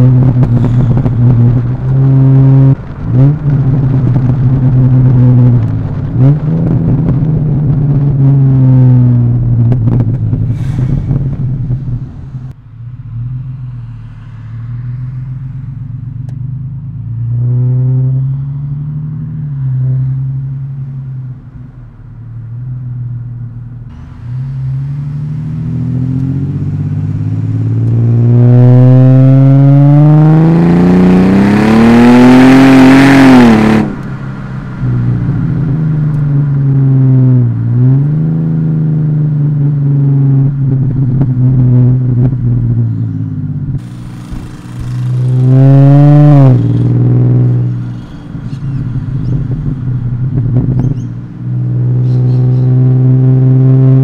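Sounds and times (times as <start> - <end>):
car engine rumbling and revving: 0.0 - 54.0.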